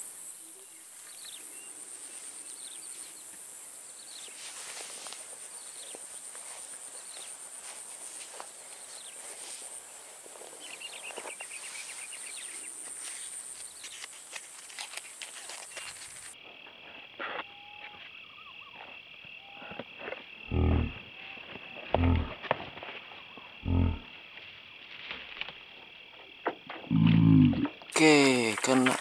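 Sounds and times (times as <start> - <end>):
insect chirps and clicks: 0.0 - 29.0
insects high-pitched buzz: 0.0 - 29.0
low insect whine: 0.0 - 29.0.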